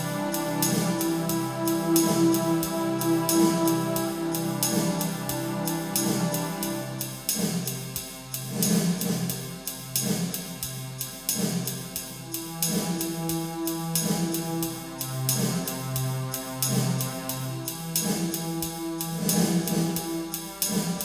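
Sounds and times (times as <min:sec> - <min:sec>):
background music with drum beat: 0:00.0 - 0:21.0.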